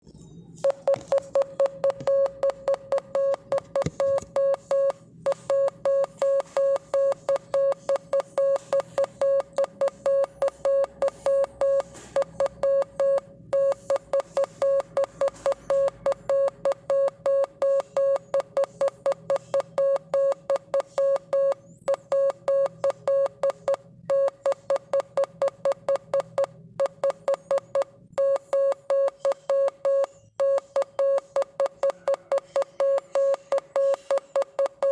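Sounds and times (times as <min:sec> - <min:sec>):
morse code beeps: 0:00.6 - 0:34.9.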